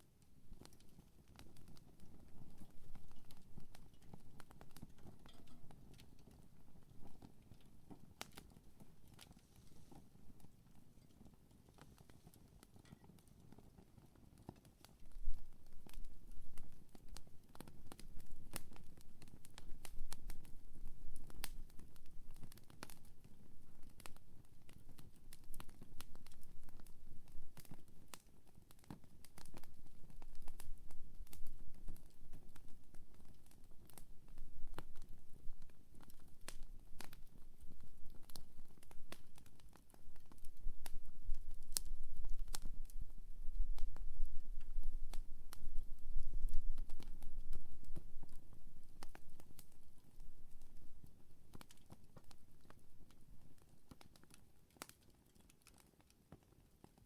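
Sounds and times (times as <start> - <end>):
campfire crackling and popping: 0.1 - 57.0.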